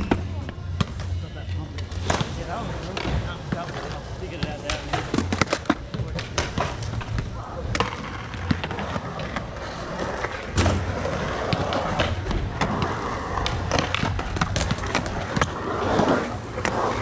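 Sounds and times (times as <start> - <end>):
skateboard wheels rolling on concrete: 1.7 - 17.0.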